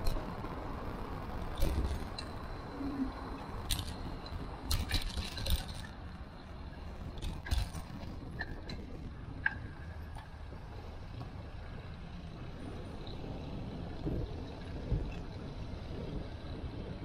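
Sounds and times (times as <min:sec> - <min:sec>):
bicycle clicks and rattles: 0:00.0 - 0:00.4, 0:01.4 - 0:17.0
road rumble: 0:00.0 - 0:17.0.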